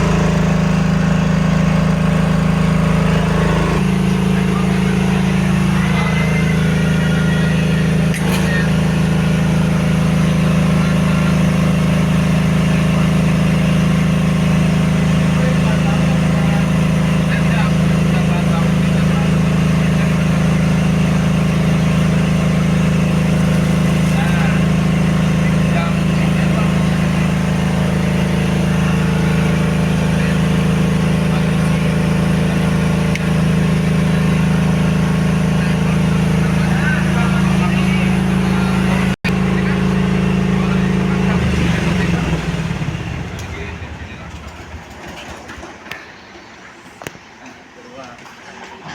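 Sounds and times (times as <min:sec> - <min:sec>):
air compressor humming: 0:00.0 - 0:47.4.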